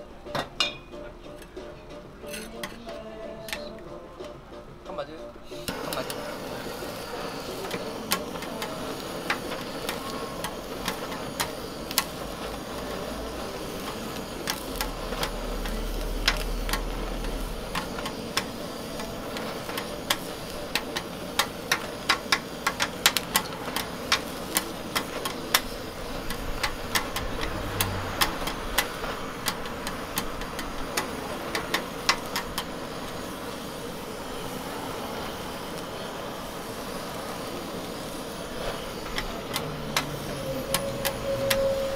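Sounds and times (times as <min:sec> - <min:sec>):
blowtorch hissing: 0:00.0 - 0:41.9
metal spatula clacking on griddle: 0:00.3 - 0:01.6, 0:02.2 - 0:03.8, 0:05.6 - 0:33.3, 0:38.6 - 0:41.9.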